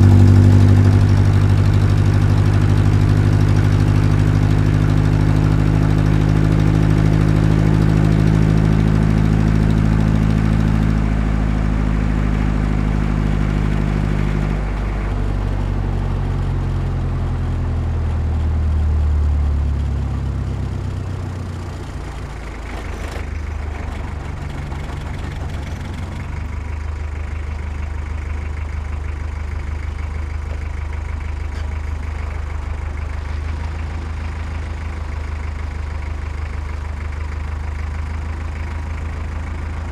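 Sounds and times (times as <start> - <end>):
diesel engine of heavy machinery: 0.0 - 39.9.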